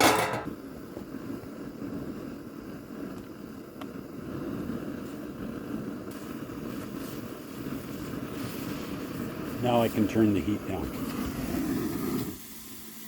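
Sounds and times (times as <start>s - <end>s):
pot of water boiling: 0.0s - 13.0s.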